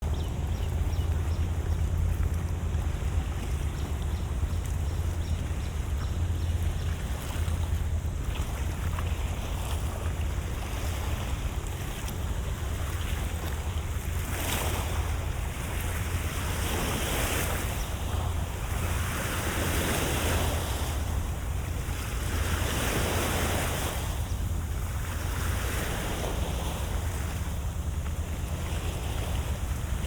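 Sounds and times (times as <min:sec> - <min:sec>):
waves washing in: 0:00.0 - 0:30.0
wind rumble on microphone: 0:00.0 - 0:30.0.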